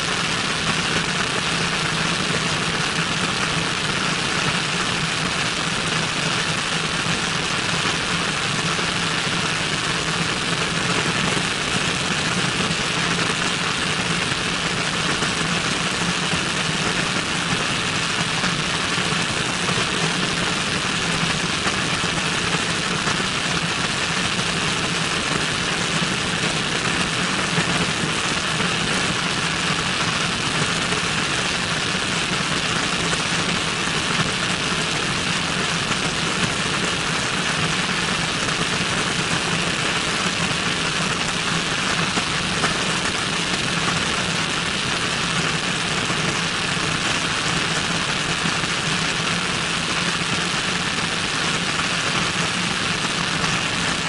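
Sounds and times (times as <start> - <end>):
airplane engine and propeller: 0.0 - 47.1.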